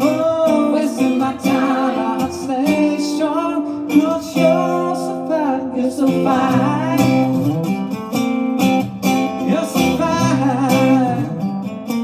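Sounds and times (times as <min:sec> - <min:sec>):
man singing: 0:00.0 - 0:07.9, 0:09.2 - 0:11.8
acoustic guitar strumming: 0:00.0 - 0:12.0.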